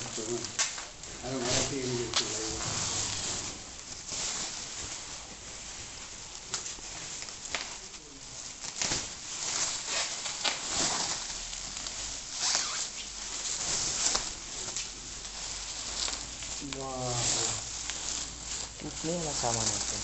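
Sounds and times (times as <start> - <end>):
paper rustling: 0.0 - 20.0
plastic packaging crinkling: 0.0 - 20.0.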